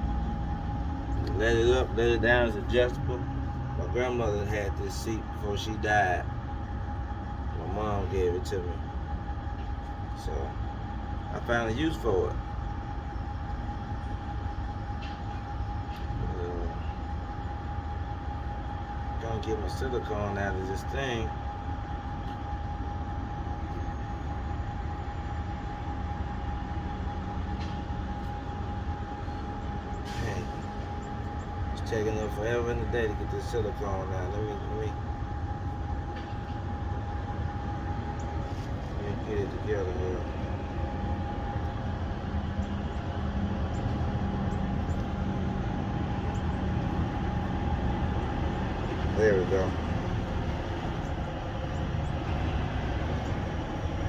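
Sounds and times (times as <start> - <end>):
constant high-pitched tone: 0.0 - 54.0
low mechanical drone: 0.0 - 54.0
machine low rumble: 0.0 - 54.0.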